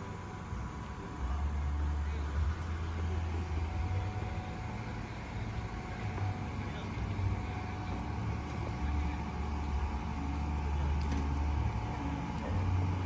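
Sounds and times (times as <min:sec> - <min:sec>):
faint background hum: 0:00.0 - 0:13.0
steady low rumble: 0:00.0 - 0:13.0.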